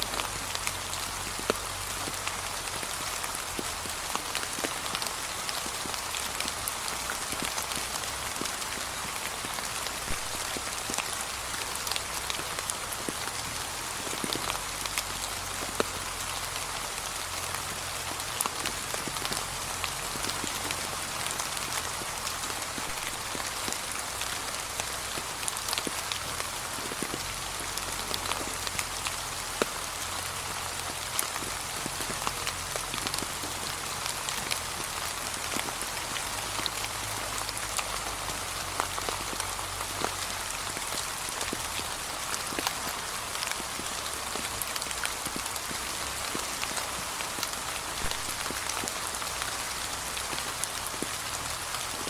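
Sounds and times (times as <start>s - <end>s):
rain drops pattering: 0.0s - 52.0s.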